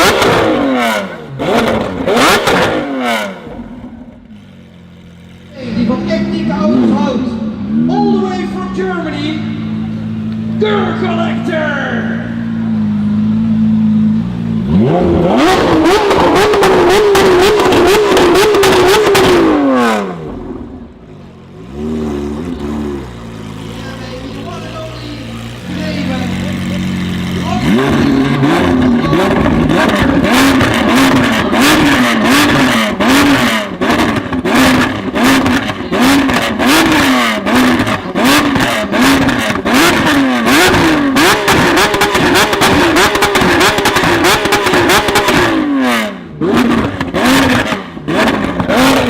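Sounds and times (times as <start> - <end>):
car engine idling: 0.0 - 49.0
car engine revving: 0.0 - 49.0.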